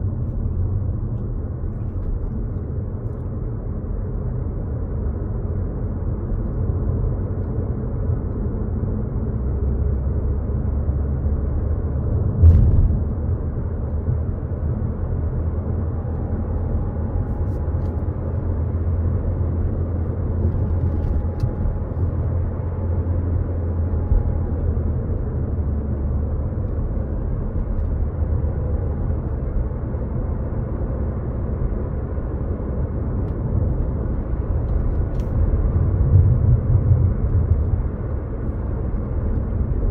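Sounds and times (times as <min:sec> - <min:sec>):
car driving rumble inside cabin: 0:00.0 - 0:39.9.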